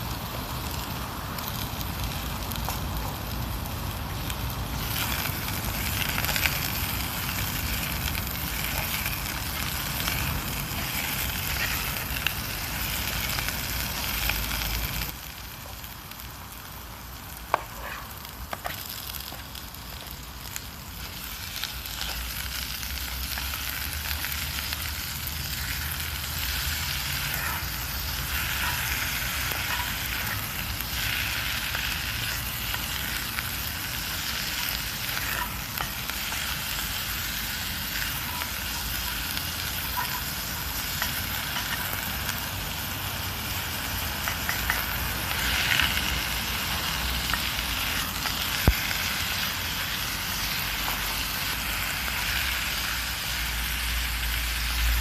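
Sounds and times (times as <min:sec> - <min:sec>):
food sizzling and frying: 0:00.0 - 0:55.0
wood fire crackles: 0:00.0 - 0:55.0.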